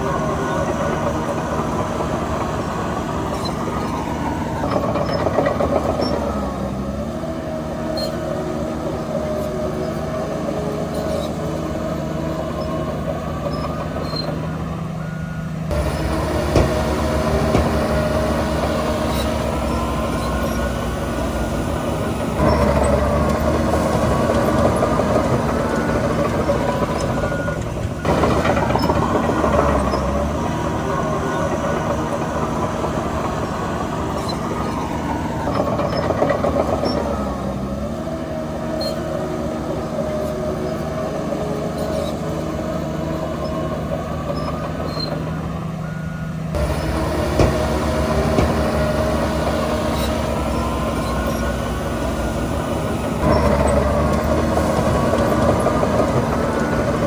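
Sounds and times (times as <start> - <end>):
heavy diesel engines working: 0.0 - 57.0.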